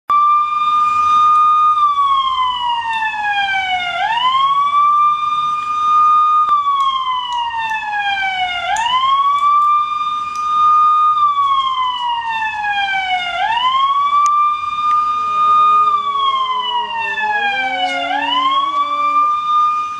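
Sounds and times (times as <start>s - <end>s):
siren tone gliding: 0.1s - 19.9s.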